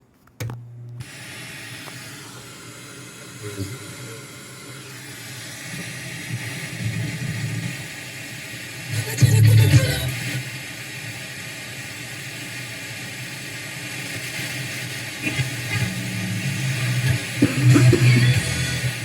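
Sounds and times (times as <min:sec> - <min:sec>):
faint radio broadcast: 0:00.4 - 0:19.0
radio static hiss: 0:01.0 - 0:19.0.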